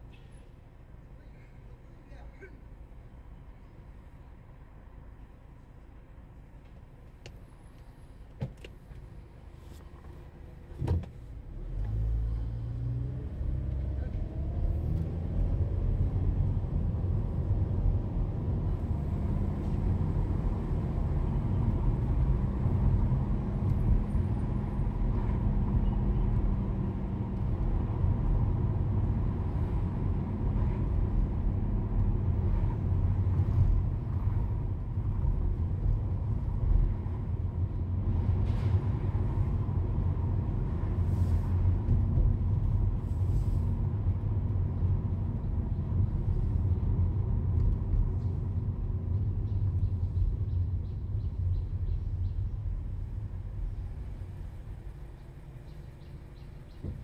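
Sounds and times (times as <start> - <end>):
car driving in traffic: 0.0 - 57.0.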